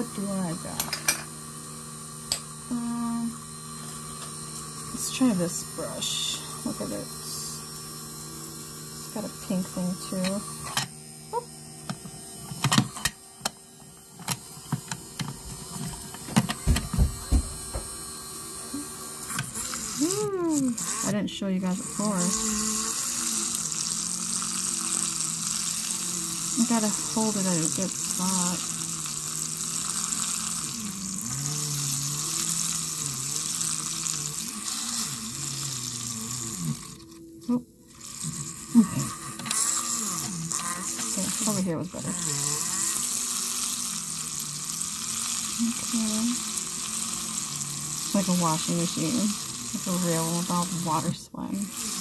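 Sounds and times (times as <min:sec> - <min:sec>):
small motor whirring: 0:00.0 - 0:52.0.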